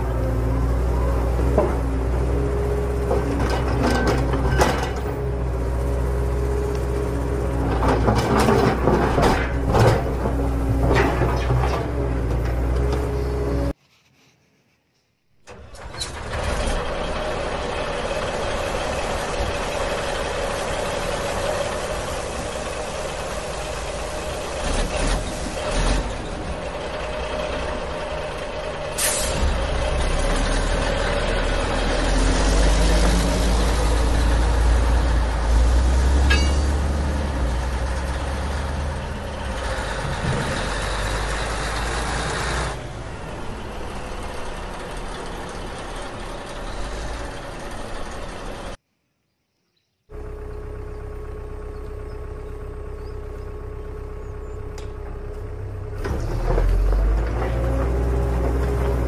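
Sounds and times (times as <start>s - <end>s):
heavy vehicle engine running: 0.0s - 13.8s, 15.4s - 48.8s, 50.1s - 59.0s.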